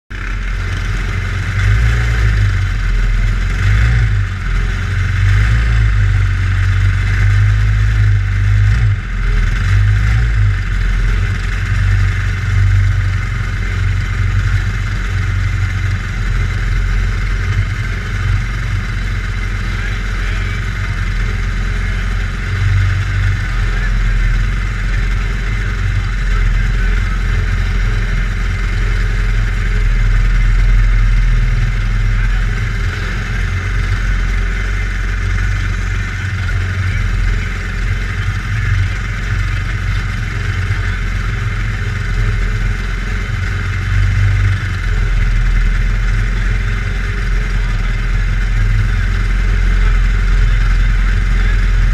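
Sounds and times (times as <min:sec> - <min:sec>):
race car engine idling: 0:00.1 - 0:51.9.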